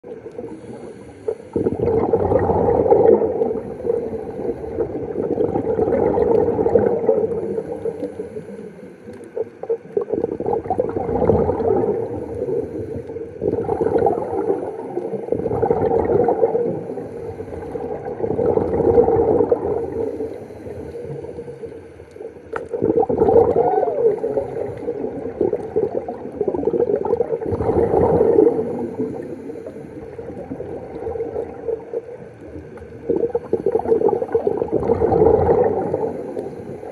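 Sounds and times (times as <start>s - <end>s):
underwater exhaled air bubbling: 0.0s - 36.9s.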